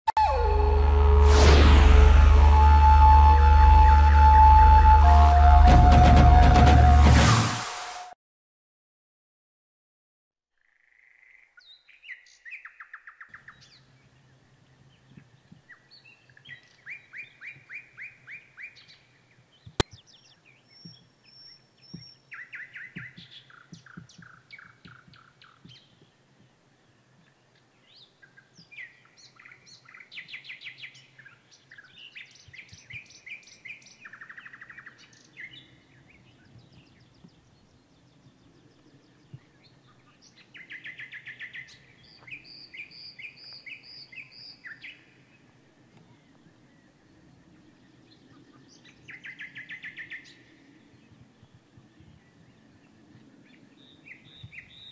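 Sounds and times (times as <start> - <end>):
songbirds singing: 10.6 - 54.9.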